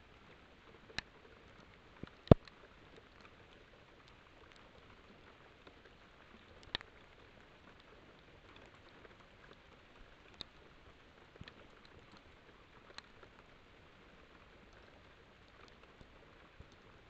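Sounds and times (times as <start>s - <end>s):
faint microphone hiss: 0.0s - 17.0s.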